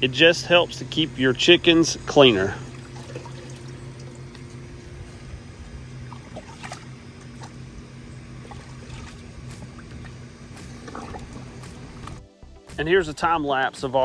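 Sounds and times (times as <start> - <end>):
low machine hum: 0.0 - 12.3
water trickling and splashing: 0.7 - 12.2.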